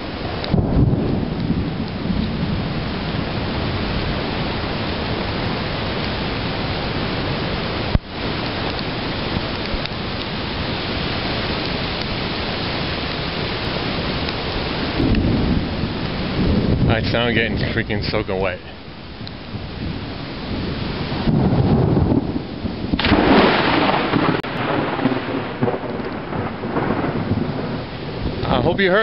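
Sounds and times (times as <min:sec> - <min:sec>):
heavy rain pouring: 0:00.0 - 0:29.0
thunder rumbling: 0:00.0 - 0:29.0.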